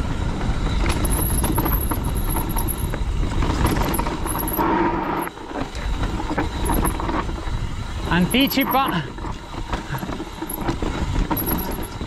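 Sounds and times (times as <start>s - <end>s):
bike rattling over bumps: 0.0s - 12.0s
bike tyres on dirt and stones: 0.0s - 12.0s.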